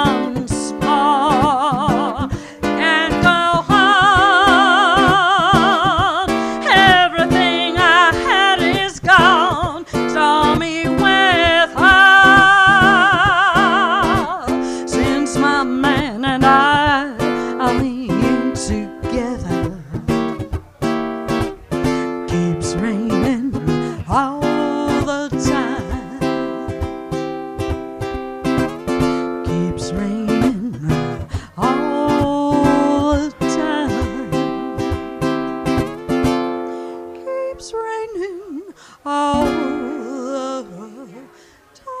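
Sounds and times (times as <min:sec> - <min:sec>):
woman singing jazz: 0:00.0 - 0:20.4, 0:22.0 - 0:26.9, 0:29.2 - 0:35.4, 0:37.1 - 0:42.0
plucked ukulele chords: 0:00.0 - 0:41.4.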